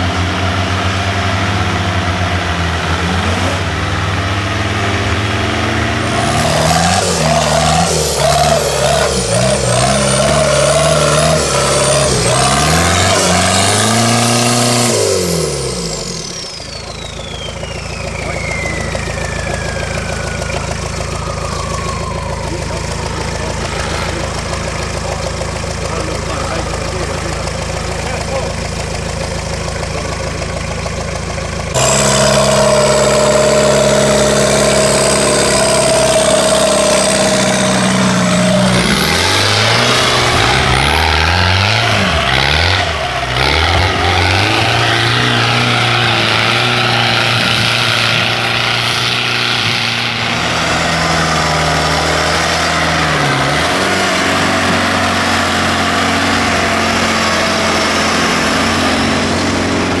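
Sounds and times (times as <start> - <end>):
race vehicle engine revving: 0.0 - 60.0.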